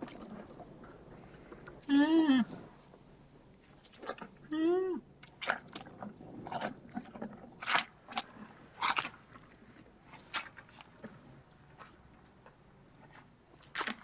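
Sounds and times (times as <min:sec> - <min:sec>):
rhinoceros chewing: 0:00.0 - 0:14.0.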